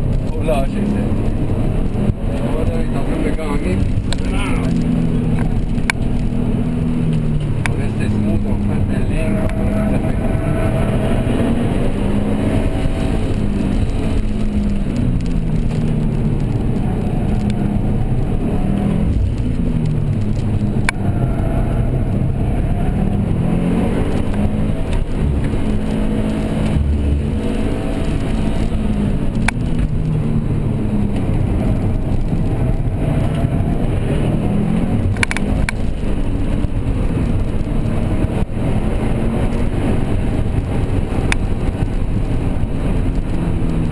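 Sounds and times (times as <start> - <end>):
car engine accelerating: 0.0 - 43.9
road and tyre noise: 0.0 - 43.9.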